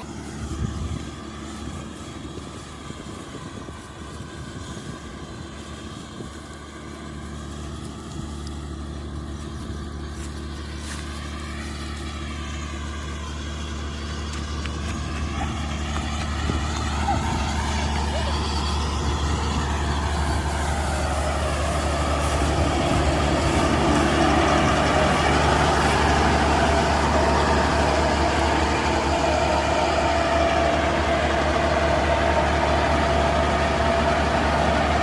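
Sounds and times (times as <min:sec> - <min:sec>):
heavy diesel engines droning: 0:00.0 - 0:35.0.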